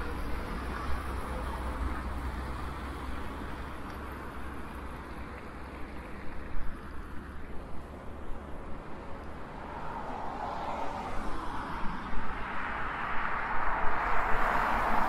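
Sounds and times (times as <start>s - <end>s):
road noise hiss: 0.0s - 15.0s.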